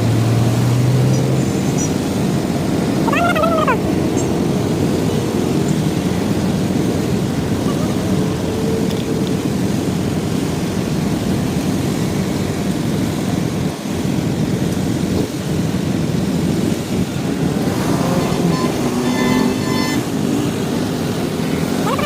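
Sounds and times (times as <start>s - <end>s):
motorcycle road noise: 0.0s - 22.0s
wind buffeting microphone: 0.0s - 22.0s.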